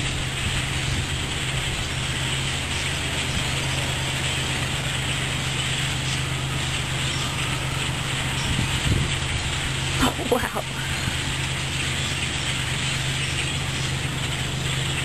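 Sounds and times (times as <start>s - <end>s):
flock of birds chattering: 0.0s - 15.0s
low hum: 0.0s - 15.0s.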